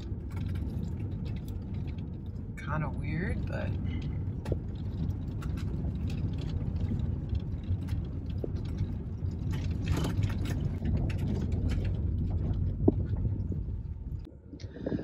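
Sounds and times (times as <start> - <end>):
light clicks and rattles: 0.0 - 14.9
engine and road rumble in cabin: 0.0 - 15.0.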